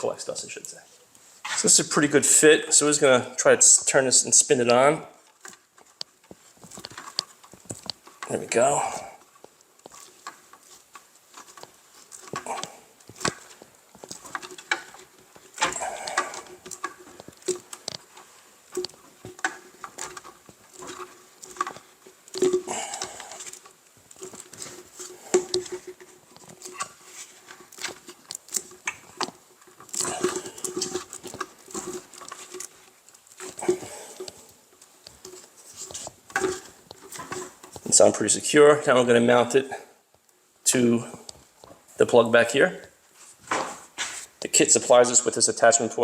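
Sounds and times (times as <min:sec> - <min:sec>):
plastic hose clicks and scrapes: 0:00.0 - 0:45.8.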